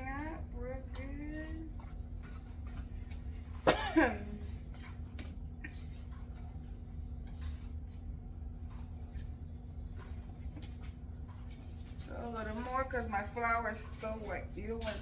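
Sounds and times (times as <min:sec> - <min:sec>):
utensil stirring flour in a bowl: 0:00.0 - 0:15.0.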